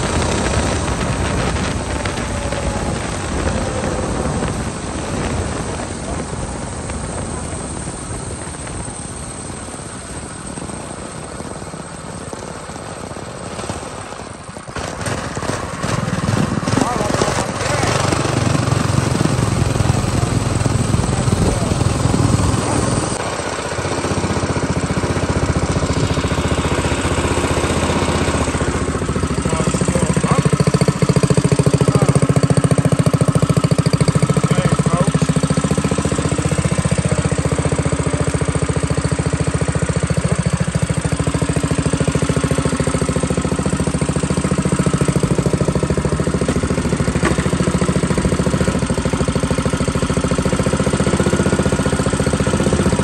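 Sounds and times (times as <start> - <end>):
minibike engine idling: 0.0 - 53.0.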